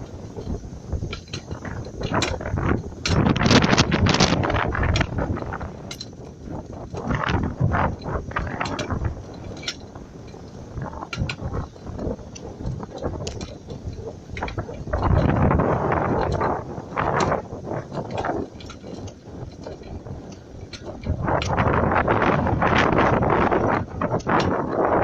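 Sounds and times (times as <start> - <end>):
mechanical clicking and rattling: 0.0 - 25.0.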